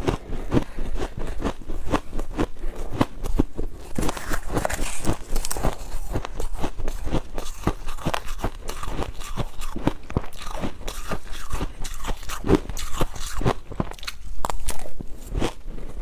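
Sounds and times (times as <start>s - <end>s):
ice crunching between teeth: 0.6s - 15.8s.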